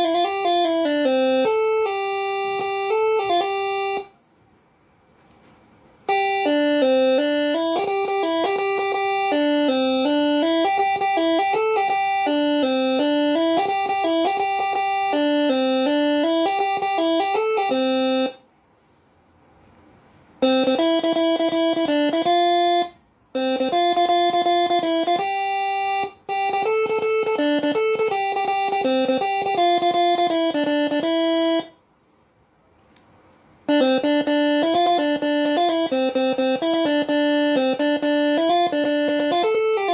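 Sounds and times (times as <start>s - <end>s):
air horn playing melody: 0.0s - 4.2s, 6.1s - 18.4s, 20.4s - 31.8s, 33.7s - 39.9s.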